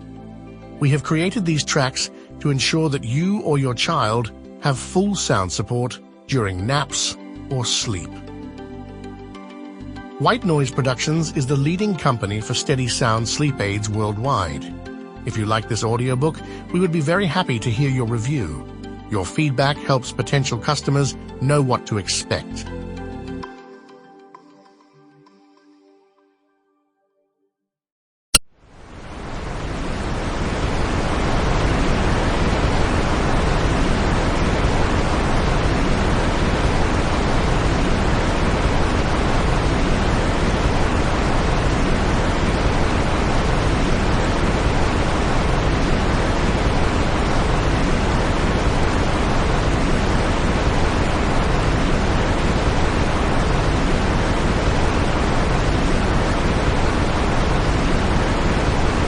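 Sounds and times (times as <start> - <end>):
white noise hiss: 0.0 - 5.7, 6.6 - 23.5, 28.6 - 59.0.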